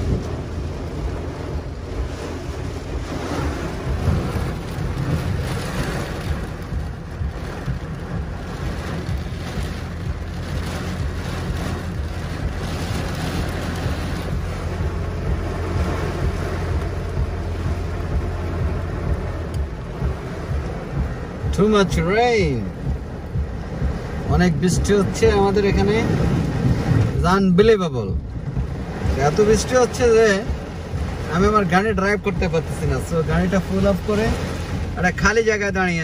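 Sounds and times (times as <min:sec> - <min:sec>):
deep rumble: 0:00.0 - 0:36.0
heavy rain and wind on car: 0:00.0 - 0:36.0.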